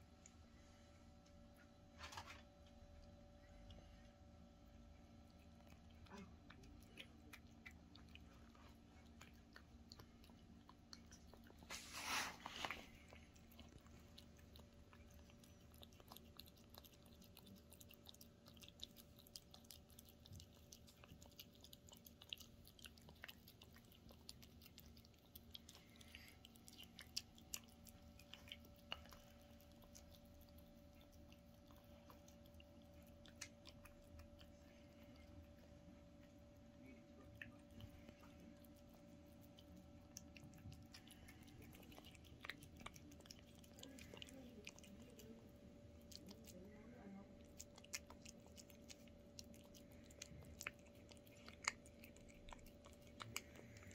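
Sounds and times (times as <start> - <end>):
cat eating wet food: 0.0 - 53.9.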